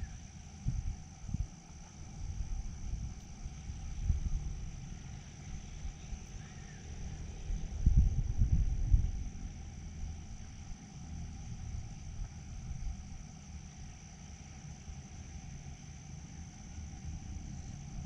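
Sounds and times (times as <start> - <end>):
high-pitched insect trill: 0.0 - 18.0
low fluctuating rumble: 0.0 - 18.0.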